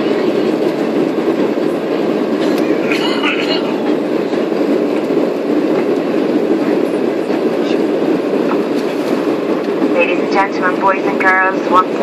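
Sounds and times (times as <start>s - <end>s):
jet cabin engine rush: 0.0s - 12.0s.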